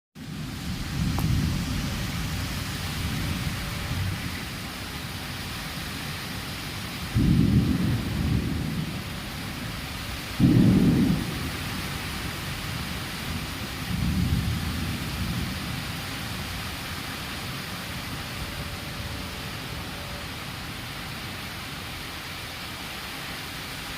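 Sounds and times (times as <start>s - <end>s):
thunder rumbling: 0.2s - 21.4s
steady rain: 0.2s - 23.9s.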